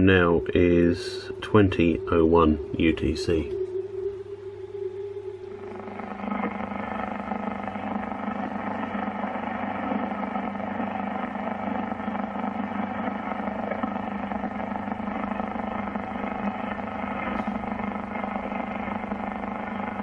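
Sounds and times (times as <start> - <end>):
fixed interference tones: 0.0 - 20.0
radio interference hissing buzz: 0.0 - 20.0.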